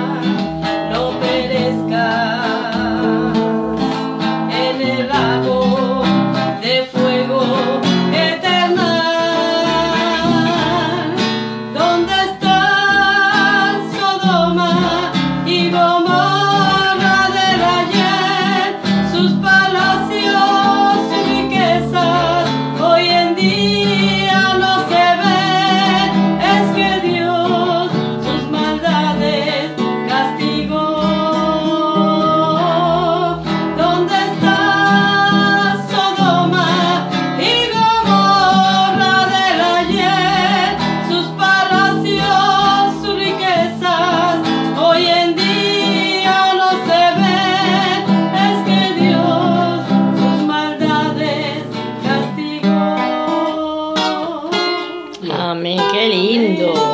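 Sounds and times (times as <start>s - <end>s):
strummed acoustic guitar: 0.0s - 56.9s
woman singing with vibrato: 0.0s - 56.9s.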